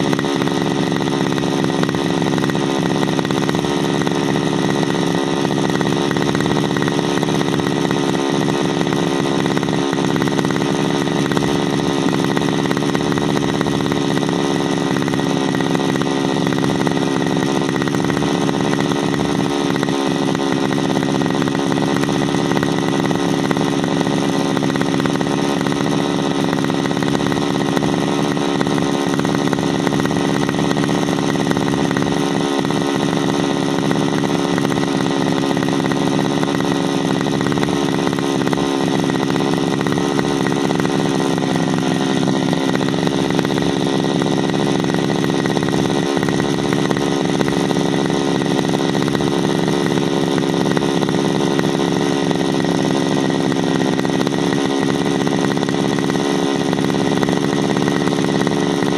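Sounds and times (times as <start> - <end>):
brushcutter engine idling: 0.0 - 58.9.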